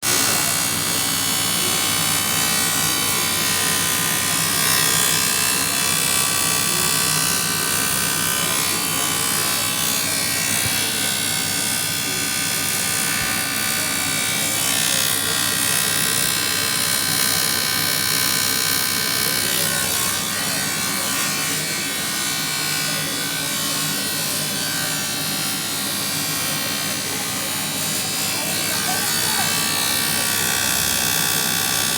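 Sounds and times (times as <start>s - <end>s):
welding arc buzzing and hissing: 0.0s - 31.9s.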